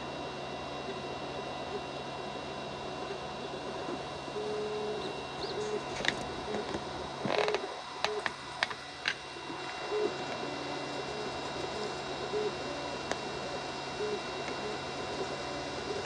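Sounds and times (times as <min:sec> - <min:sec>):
fan hum: 0:00.0 - 0:16.0
stepper motors tones: 0:00.8 - 0:16.0.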